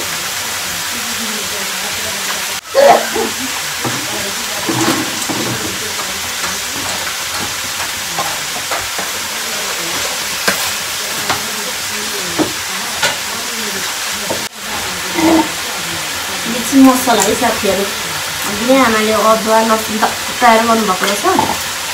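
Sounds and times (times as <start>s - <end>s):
oil sizzling in a wok: 0.0s - 21.9s.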